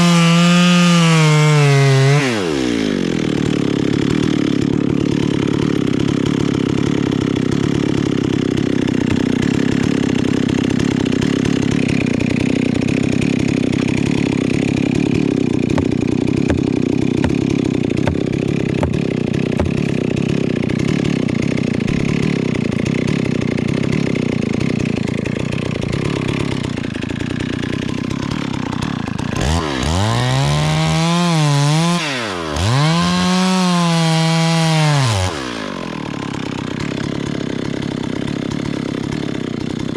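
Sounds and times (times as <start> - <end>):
chainsaw cutting tree trunk: 0.0 - 39.9
chainsaw engine revving: 0.0 - 39.9.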